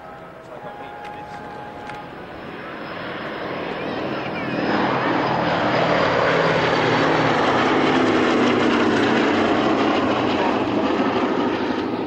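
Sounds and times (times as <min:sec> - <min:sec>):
propeller plane passing overhead: 0:00.0 - 0:12.0.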